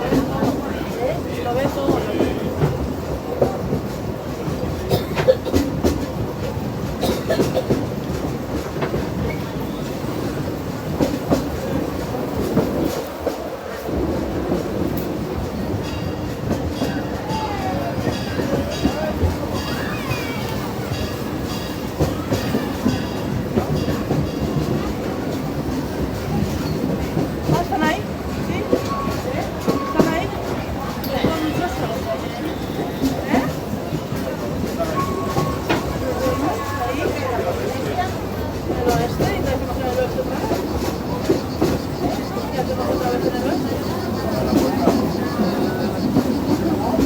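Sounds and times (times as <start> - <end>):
train rumble: 0.0 - 47.0
train wheels clacking over rails: 0.0 - 47.0.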